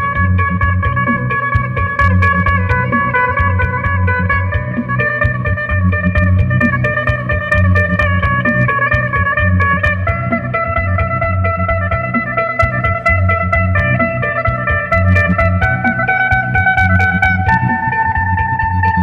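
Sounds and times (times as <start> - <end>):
electric lute melody: 0.0 - 19.0
low pulse: 0.0 - 19.0.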